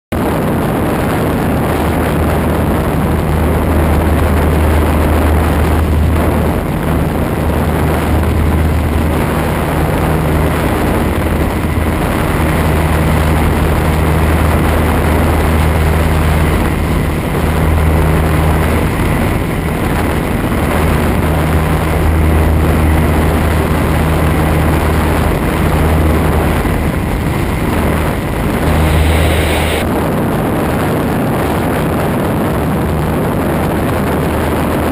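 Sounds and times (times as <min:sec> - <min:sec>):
airflow rush: 0:00.2 - 0:30.4
airplane engine droning: 0:00.2 - 0:34.9.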